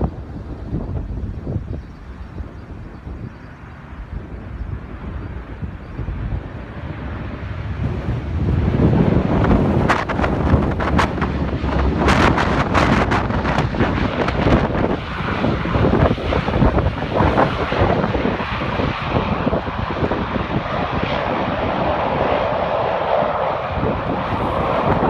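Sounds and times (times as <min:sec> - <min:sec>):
turboprop engines and propellers: 0:00.0 - 0:25.0
wind buffeting microphone: 0:00.0 - 0:25.0.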